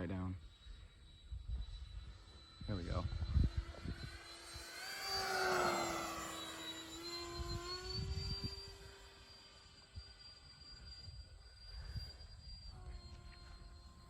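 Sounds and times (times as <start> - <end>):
model jet fan whine passing by: 0.0 - 14.0.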